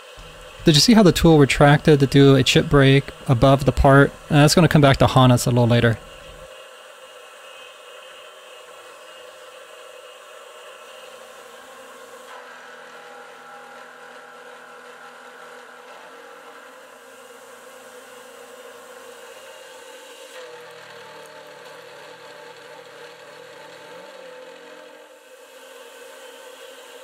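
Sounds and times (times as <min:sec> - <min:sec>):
milling machine cutting whine: 0:00.0 - 0:27.0.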